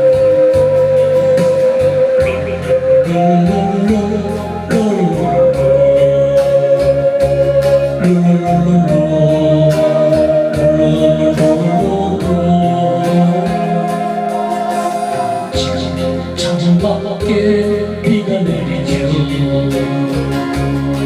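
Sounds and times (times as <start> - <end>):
instrumental pop ballad: 0.0 - 21.0.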